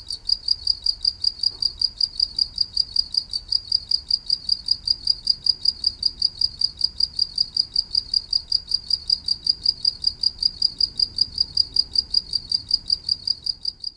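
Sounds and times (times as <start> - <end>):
cricket chirping: 0.0 - 13.9.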